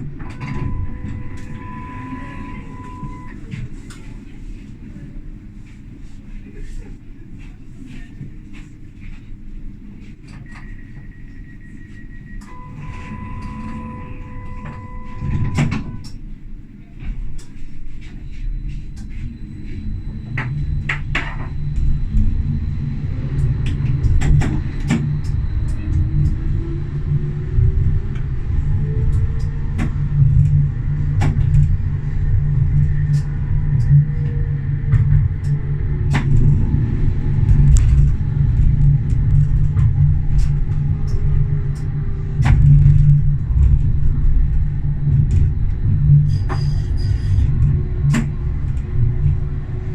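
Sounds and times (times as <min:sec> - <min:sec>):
faint whine: 0:00.0 - 0:49.9
tram rumbling: 0:00.0 - 0:49.9.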